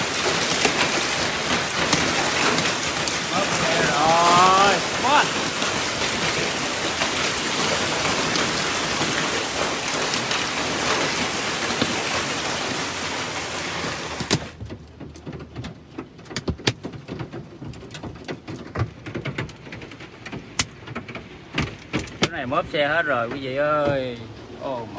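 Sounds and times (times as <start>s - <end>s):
hail and rain pelting a car: 0.0s - 24.9s.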